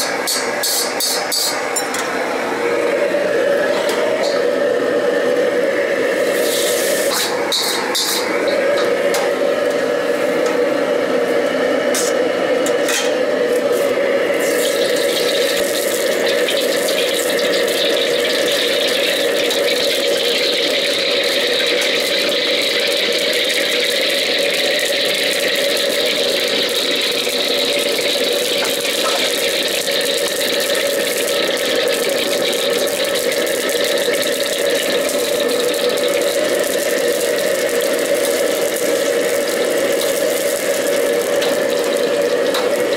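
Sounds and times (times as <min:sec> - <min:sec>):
gas burner roaring: 0:00.0 - 0:42.9
oil and meat sizzling: 0:00.0 - 0:42.9.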